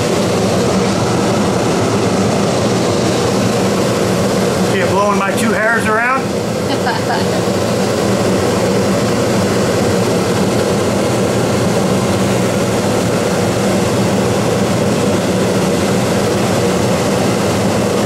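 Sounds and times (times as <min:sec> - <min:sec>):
air conditioner blowing air: 0:00.0 - 0:18.0.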